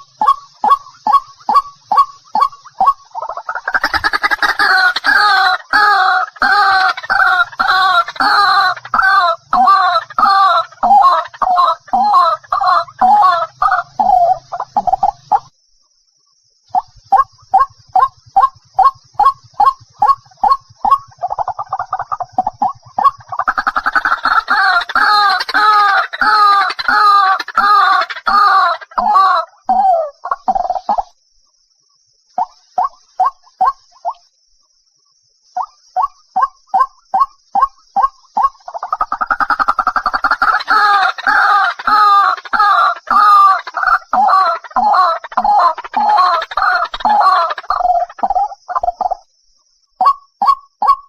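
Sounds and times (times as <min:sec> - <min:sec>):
waterhen calling: 0:00.0 - 0:15.5, 0:16.8 - 0:31.1, 0:35.6 - 0:49.1.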